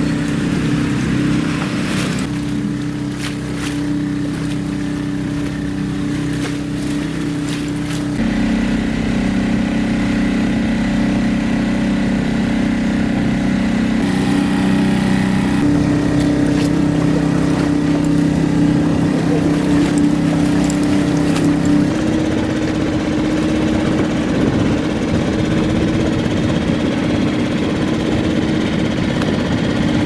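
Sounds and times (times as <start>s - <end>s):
small boat engine humming: 0.0s - 30.0s.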